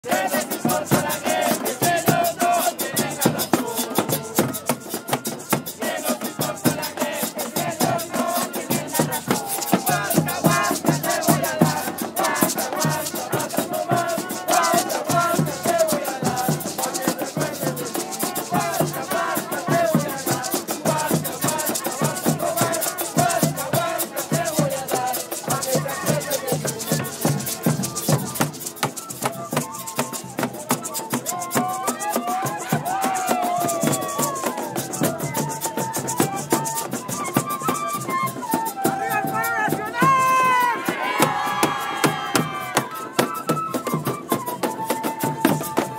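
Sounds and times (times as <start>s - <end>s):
crowd chanting and singing: 0.0s - 45.9s
shaker and drum percussion: 0.0s - 45.9s.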